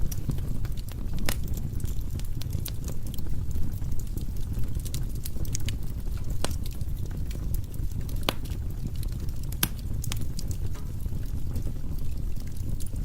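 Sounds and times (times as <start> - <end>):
fire low rumble: 0.0 - 13.0
fire pops and crackles: 0.0 - 13.0.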